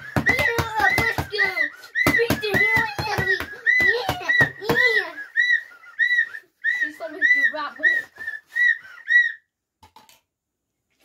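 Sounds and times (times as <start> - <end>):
toy whistle shrill toots: 0.0 - 9.5.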